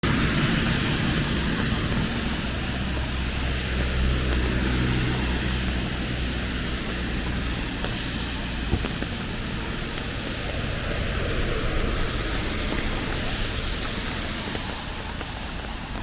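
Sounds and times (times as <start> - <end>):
low engine hum: 0.0 - 16.0
rain falling: 0.0 - 16.0.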